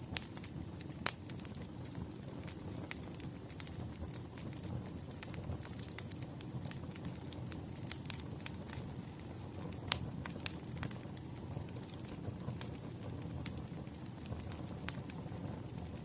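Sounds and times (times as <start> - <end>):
low rumble of fire: 0.0 - 16.0
firewood popping and snapping: 0.2 - 16.0.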